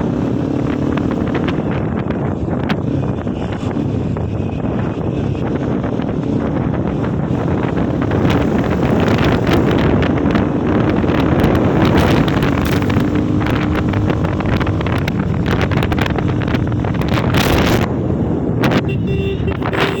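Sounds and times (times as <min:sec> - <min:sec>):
motorcycle engine drone: 0:00.0 - 0:20.0
wind buffeting microphone: 0:00.0 - 0:20.0.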